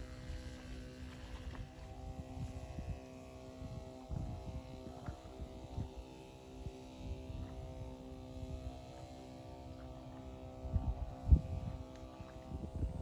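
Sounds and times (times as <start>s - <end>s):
small motor running: 0.0s - 13.0s.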